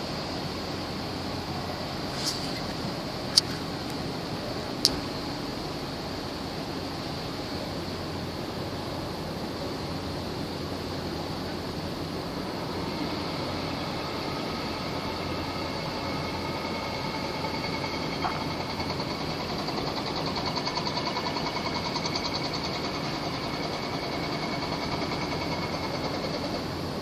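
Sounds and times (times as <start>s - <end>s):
rapid mechanical pulsing: 0.0s - 27.0s
ship engines droning: 0.0s - 27.0s
wind and water noise: 0.0s - 27.0s.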